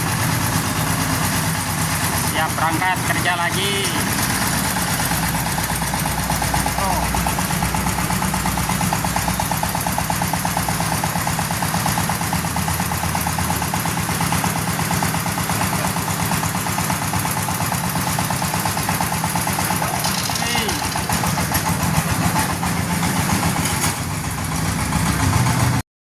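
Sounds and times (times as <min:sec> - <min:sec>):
hand tractor engine running: 0:00.0 - 0:25.8.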